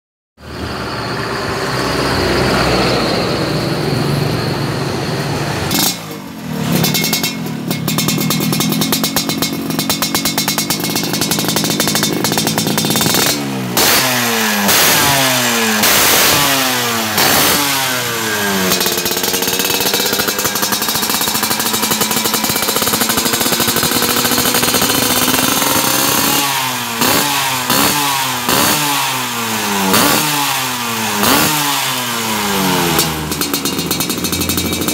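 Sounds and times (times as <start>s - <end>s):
two-stroke engine revving: 0.4s - 34.9s.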